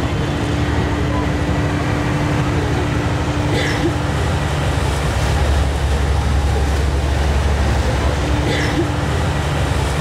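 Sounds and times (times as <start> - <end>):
boat diesel engine droning: 0.0 - 10.0.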